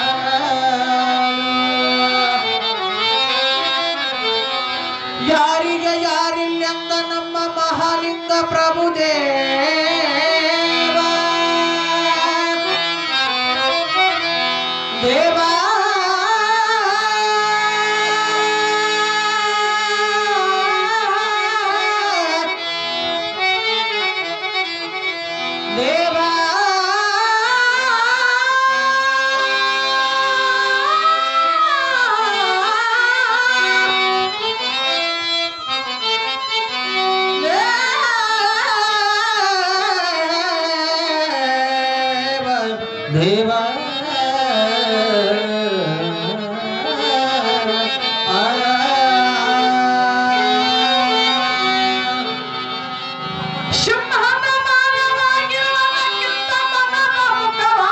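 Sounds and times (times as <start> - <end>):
harmonium chords: 0.0 - 57.9
person singing devotional song: 0.0 - 57.9.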